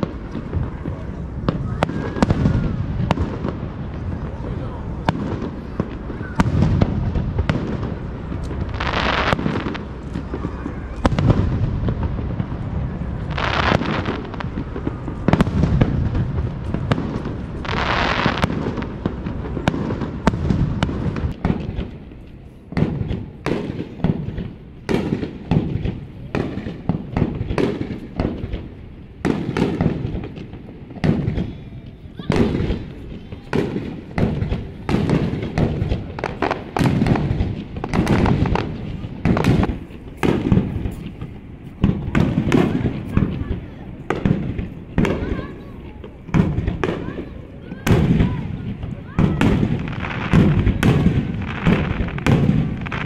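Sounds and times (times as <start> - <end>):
fireworks booming and cracking: 0.0 - 53.0.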